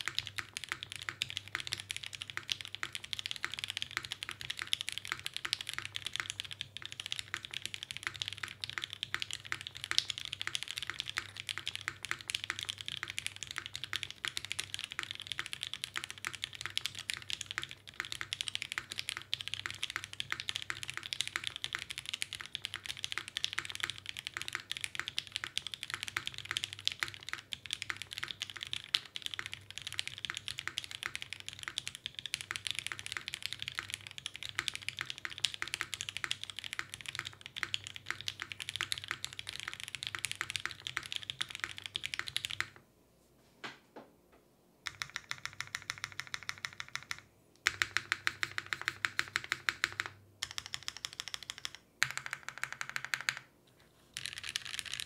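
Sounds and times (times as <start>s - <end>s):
fast keyboard typing clacks: 0.0s - 42.8s, 44.9s - 53.5s, 54.2s - 55.0s.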